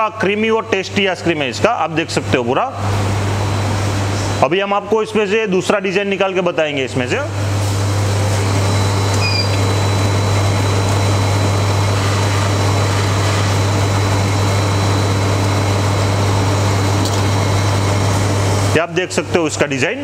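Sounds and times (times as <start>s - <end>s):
ice cream machine motor hum: 0.0s - 20.0s.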